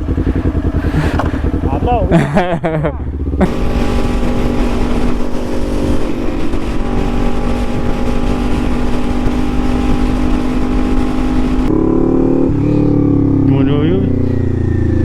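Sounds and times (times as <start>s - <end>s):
wind noise: 0.0s - 13.5s
motorcycle engine high pitch: 0.0s - 15.0s.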